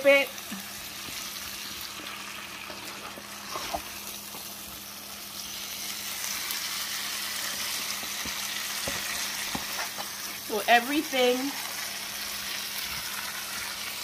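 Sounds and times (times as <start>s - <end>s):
vegetables sizzling in butter: 0.0s - 14.0s.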